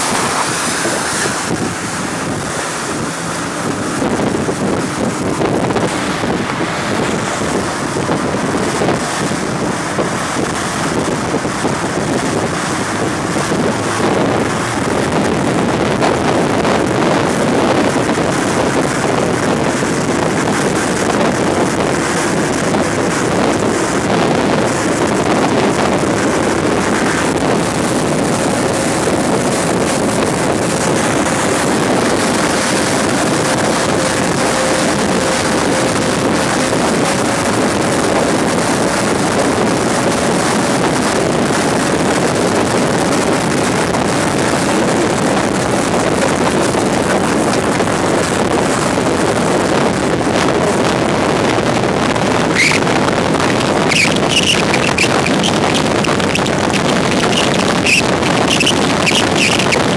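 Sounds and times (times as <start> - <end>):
motorboat engine: 0.0 - 59.9
rushing water: 0.0 - 59.9
wind buffeting microphone: 0.0 - 59.9.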